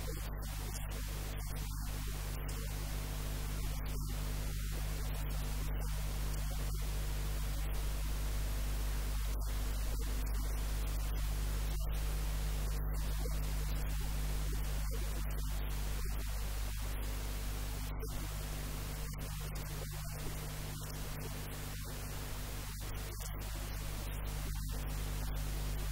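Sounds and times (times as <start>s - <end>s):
low electrical hum: 0.0s - 25.9s
static hiss: 0.0s - 25.9s.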